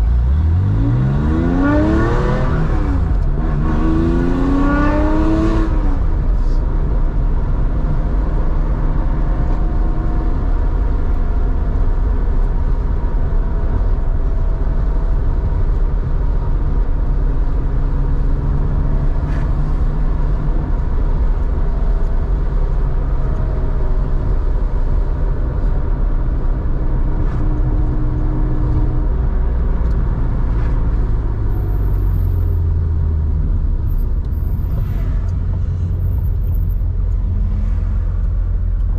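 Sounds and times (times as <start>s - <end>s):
car engine driving along: 0.0s - 38.9s.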